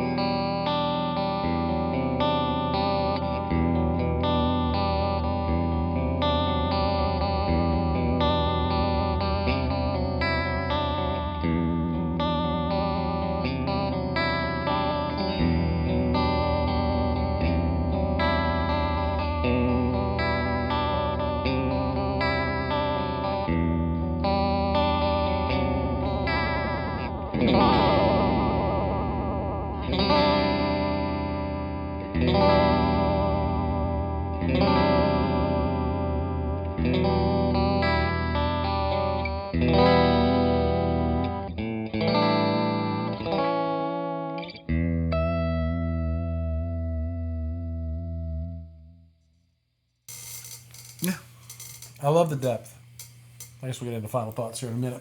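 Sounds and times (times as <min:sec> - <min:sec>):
electric guitar with chorus effect: 0:00.0 - 0:49.0.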